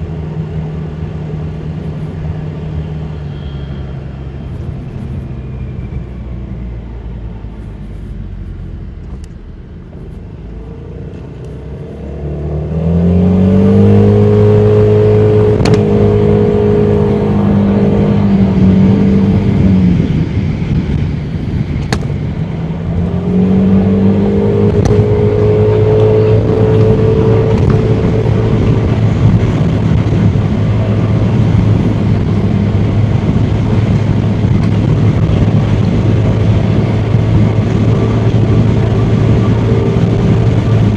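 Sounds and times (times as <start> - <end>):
road noise: 0.0 - 40.9.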